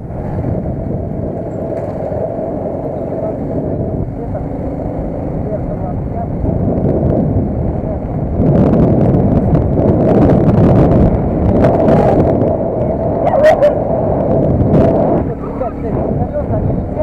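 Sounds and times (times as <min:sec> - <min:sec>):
vehicle running: 0:00.0 - 0:17.0
wind rumbling on microphone: 0:00.0 - 0:17.0.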